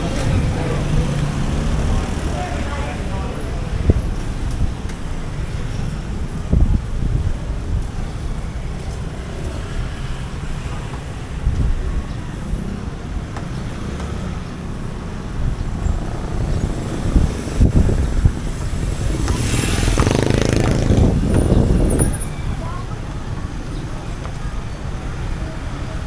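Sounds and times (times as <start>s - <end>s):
passing traffic: 0.0s - 26.0s
wind on microphone: 0.0s - 26.0s.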